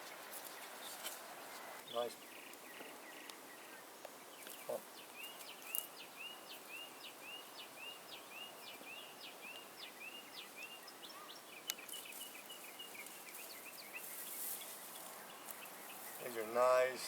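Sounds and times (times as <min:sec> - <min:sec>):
bird chirping: 0:00.0 - 0:17.0
faint outdoor hiss: 0:00.0 - 0:17.0.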